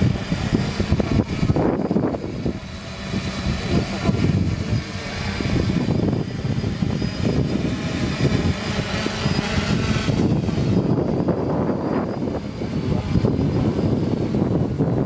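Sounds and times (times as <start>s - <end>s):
quadcopter propellers buzzing: 0.0s - 15.0s.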